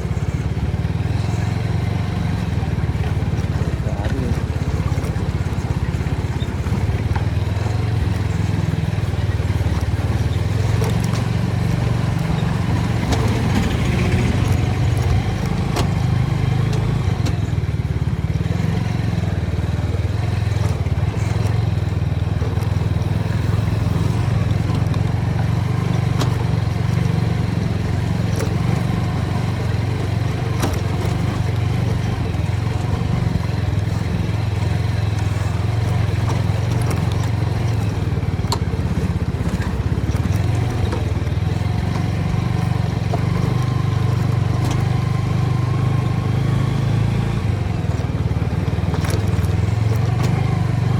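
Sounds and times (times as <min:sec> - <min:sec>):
motorcycle engine droning: 0:00.0 - 0:50.9
faint clicks: 0:01.1 - 0:17.8, 0:20.3 - 0:50.9.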